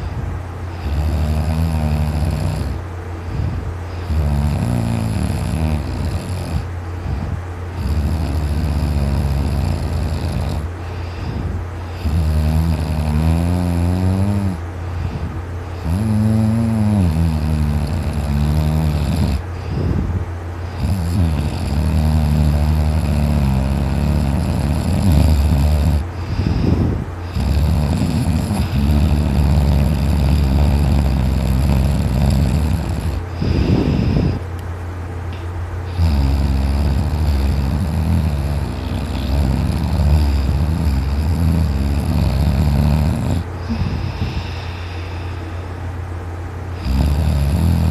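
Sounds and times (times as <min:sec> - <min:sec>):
man snoring loudly: 0:00.7 - 0:02.8, 0:03.4 - 0:06.7, 0:07.7 - 0:15.1, 0:15.7 - 0:20.0, 0:20.7 - 0:34.4, 0:35.9 - 0:45.4, 0:46.7 - 0:47.9.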